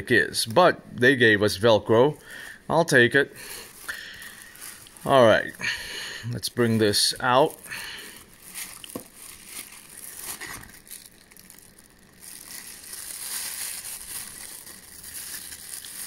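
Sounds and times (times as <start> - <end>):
plastic bag crinkling: 1.9 - 16.0.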